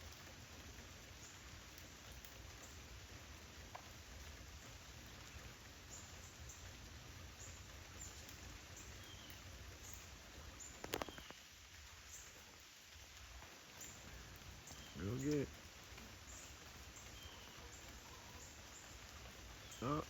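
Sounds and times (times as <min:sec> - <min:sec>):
steady rain patter: 0:00.0 - 0:20.0.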